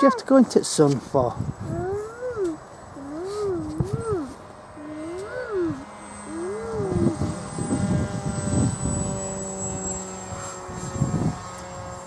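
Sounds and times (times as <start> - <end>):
wind buffeting microphone: 1.0 - 12.0
model plane motor droning: 2.0 - 12.0.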